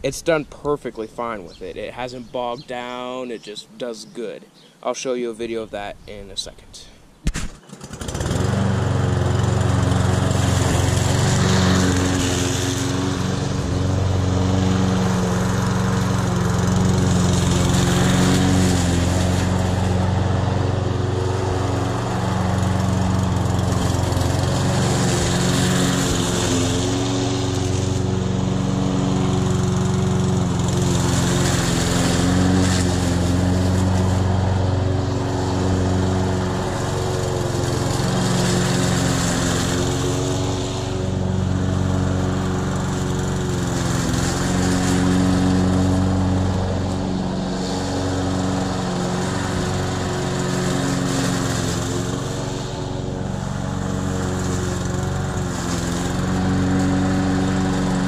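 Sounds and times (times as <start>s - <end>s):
lawn mower engine running: 0.0s - 4.1s, 7.3s - 58.0s.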